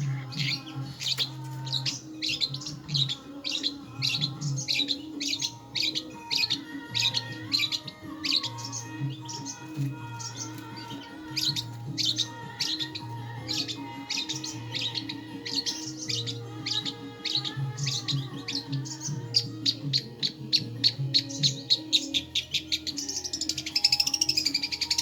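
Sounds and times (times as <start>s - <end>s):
low droning music: 0.0s - 25.0s
recorded bird chirps and calls: 0.0s - 25.0s.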